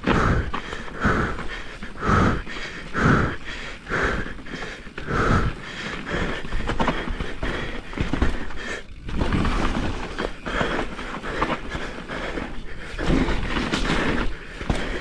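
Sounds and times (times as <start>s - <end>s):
low rumble of bike ride: 0.0s - 15.0s
person panting heavily: 0.0s - 15.0s.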